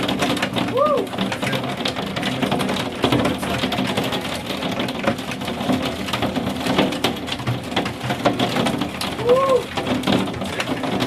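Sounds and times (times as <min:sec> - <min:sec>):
hailstones clattering on hard surface: 0:00.0 - 0:11.0.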